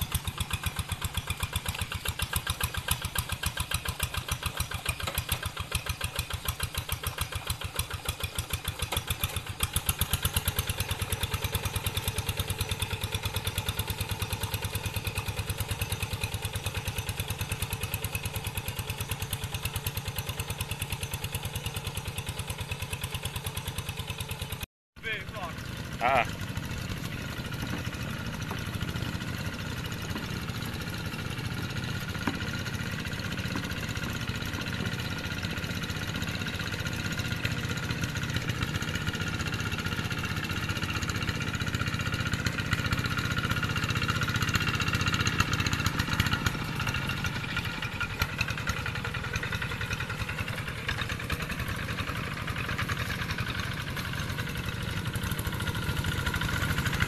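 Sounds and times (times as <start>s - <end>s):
hand tractor engine running: 0.0s - 24.5s, 25.2s - 57.0s.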